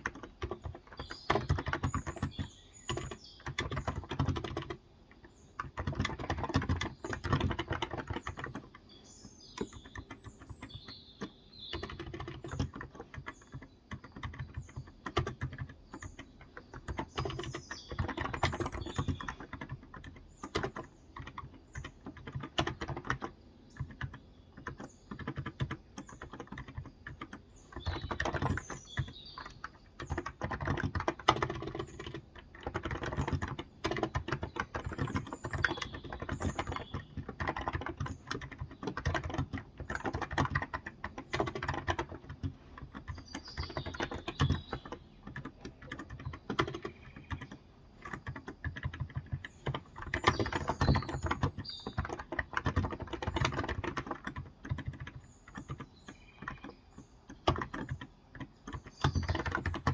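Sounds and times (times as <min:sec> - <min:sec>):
small birds chirping faintly: 0:00.0 - 0:59.9
soft keyboard typing: 0:00.0 - 0:59.9.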